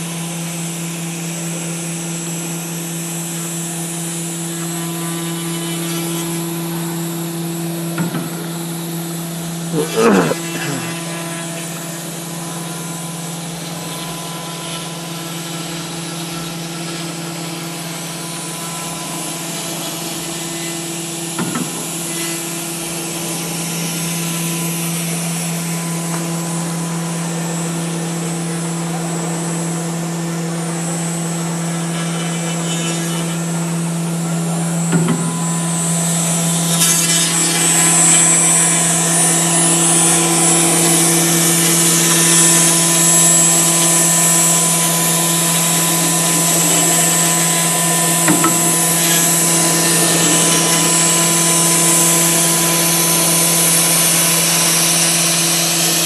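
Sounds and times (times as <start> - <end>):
cnc router humming: 0.0 - 56.0
foam cutting noise: 0.1 - 56.0.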